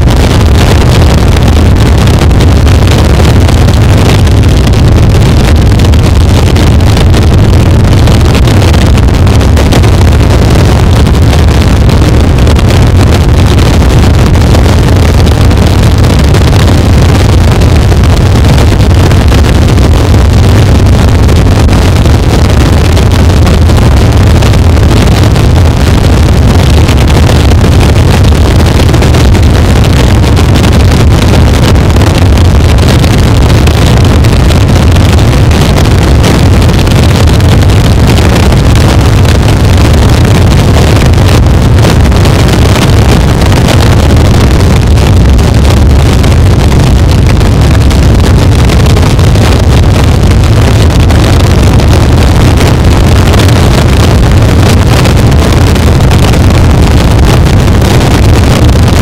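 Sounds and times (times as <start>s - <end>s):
distorted electronic noise: 0.0s - 59.0s.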